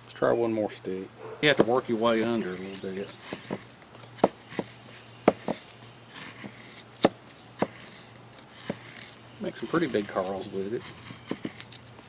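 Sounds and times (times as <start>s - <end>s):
blade shaving wood: 1.4s - 12.0s.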